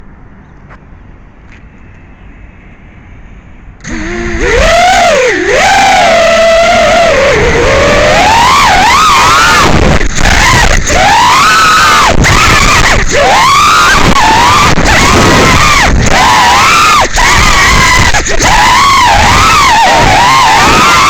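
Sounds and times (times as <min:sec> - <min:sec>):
quadcopter motors whining: 0:03.8 - 0:21.0.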